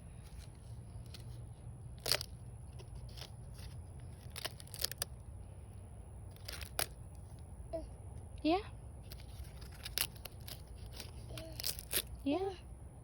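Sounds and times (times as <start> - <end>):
dry leaf crackling and crunching: 0.1 - 7.4, 9.0 - 12.4.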